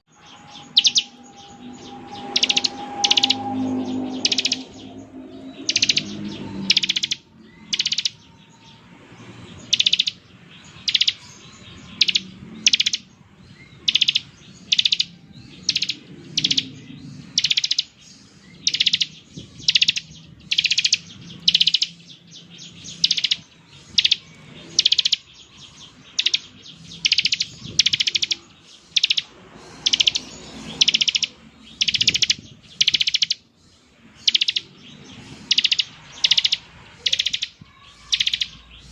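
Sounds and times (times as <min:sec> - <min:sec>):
bird singing buzzy trills: 0:00.0 - 0:38.9.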